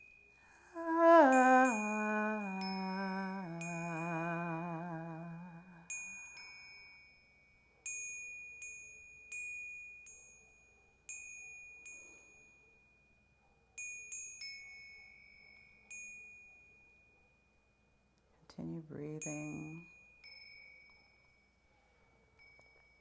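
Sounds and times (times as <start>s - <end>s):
metal chimes ringing: 0.0s - 13.2s, 13.8s - 17.5s, 19.1s - 21.7s, 22.3s - 23.0s.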